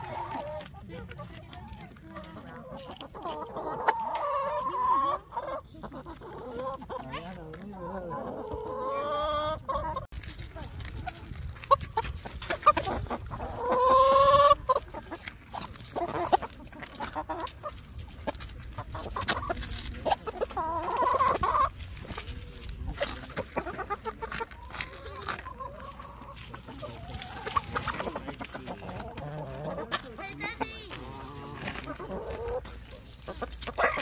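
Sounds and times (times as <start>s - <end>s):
hens and roosters clucking: 0.0s - 34.0s.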